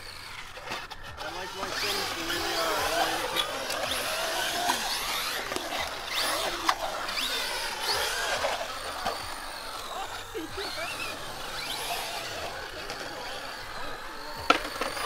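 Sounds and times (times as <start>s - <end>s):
rc car motor whine: 0.0s - 15.0s
tyres rushing on concrete: 0.0s - 15.0s.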